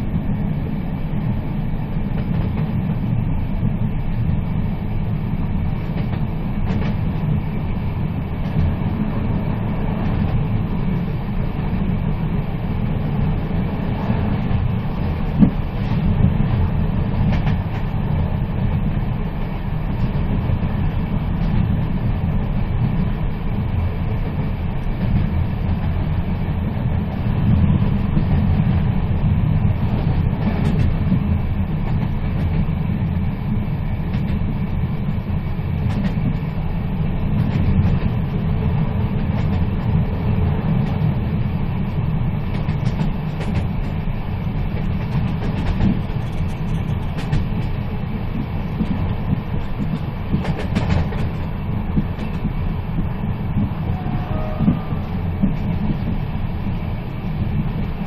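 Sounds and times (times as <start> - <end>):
train rumbling: 0.0 - 58.0
wheels clicking on track: 0.0 - 58.0.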